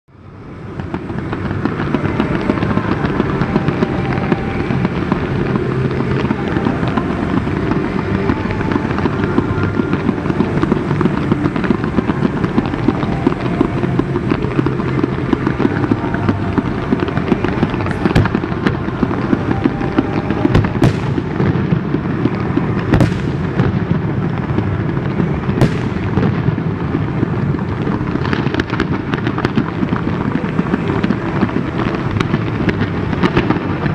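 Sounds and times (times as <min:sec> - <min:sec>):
fireworks bursting and crackling: 0:00.1 - 0:33.9
loud firework reports: 0:00.1 - 0:33.9.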